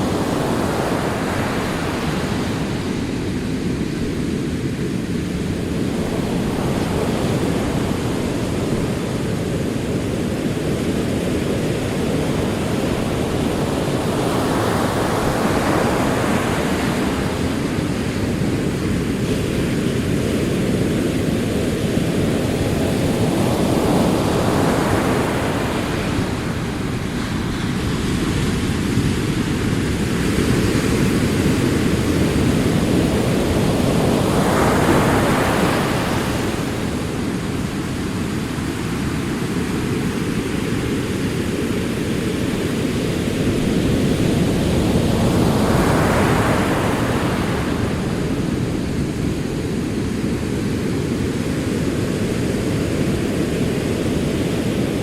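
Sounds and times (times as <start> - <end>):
ocean waves washing: 0.0 - 55.0.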